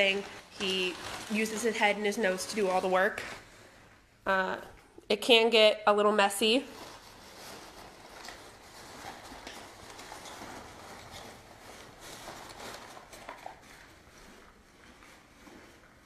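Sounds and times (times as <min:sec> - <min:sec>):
paper rustling and crinkling: 0:00.0 - 0:03.8, 0:06.4 - 0:16.0.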